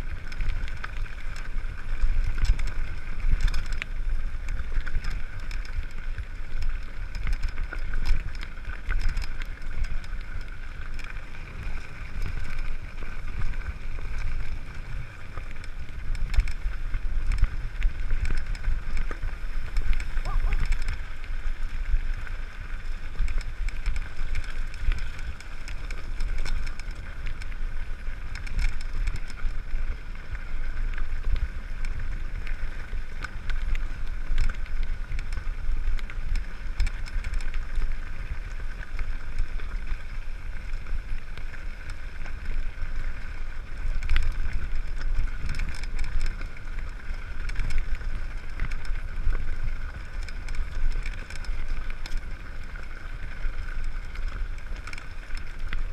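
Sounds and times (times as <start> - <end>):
bike rattling: 0.0 - 55.9
tyres crunching over gravel: 0.0 - 55.9
wind rumble on microphone: 0.0 - 55.9.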